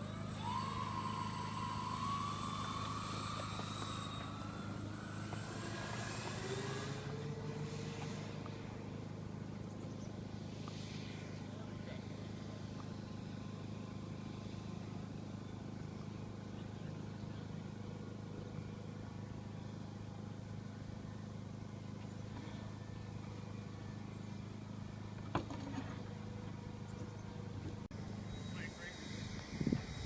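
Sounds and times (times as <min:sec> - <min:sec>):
model plane propellers droning: 0:00.0 - 0:30.0.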